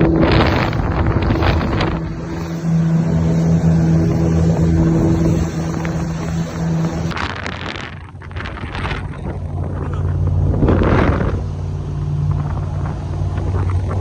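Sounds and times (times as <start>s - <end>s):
motorboat engine humming: 0.0s - 14.0s
wind buffeting microphone: 0.0s - 14.0s.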